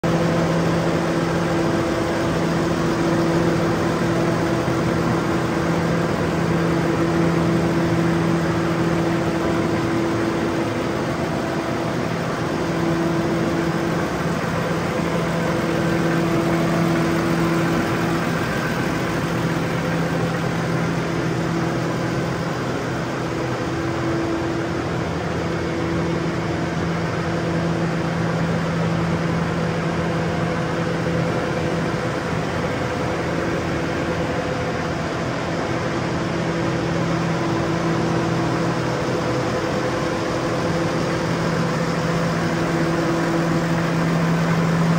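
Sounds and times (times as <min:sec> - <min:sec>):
tractor diesel engine idling: 0:00.0 - 0:44.9.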